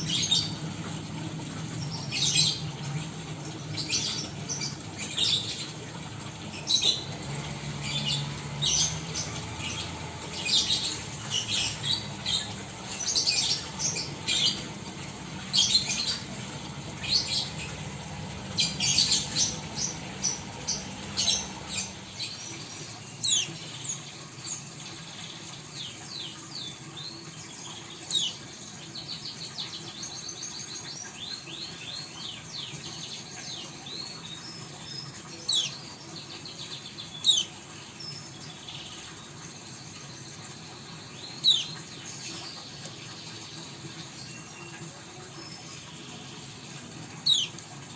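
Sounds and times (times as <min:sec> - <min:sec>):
birds chirping and twittering: 0:00.0 - 0:47.9.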